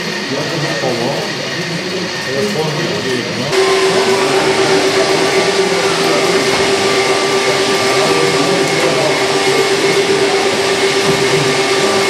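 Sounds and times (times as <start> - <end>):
hydraulic pump whine: 0.0 - 12.0
machine hiss: 0.1 - 12.0.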